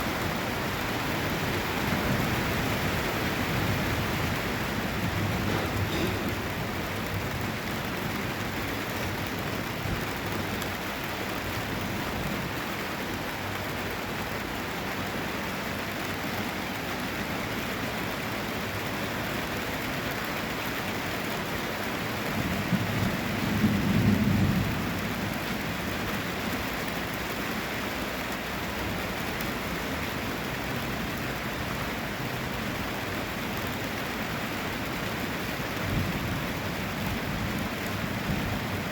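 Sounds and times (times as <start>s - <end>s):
heavy rain splashing: 0.0s - 38.9s.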